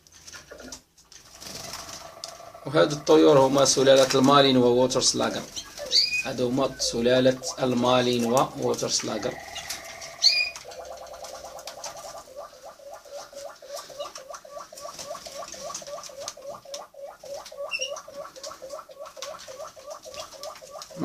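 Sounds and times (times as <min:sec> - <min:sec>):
canary singing: 0:01.4 - 0:21.0.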